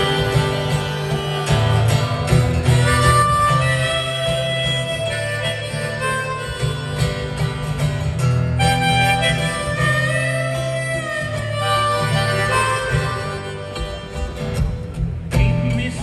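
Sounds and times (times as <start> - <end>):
harmonica playing held notes: 0.0 - 15.0
strummed acoustic guitar: 0.0 - 16.0.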